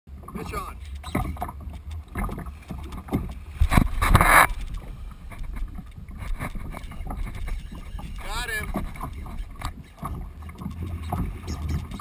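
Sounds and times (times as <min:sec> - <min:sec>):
low wind rumble: 0:00.1 - 0:12.0
water slapping against kayak hull: 0:00.2 - 0:12.0.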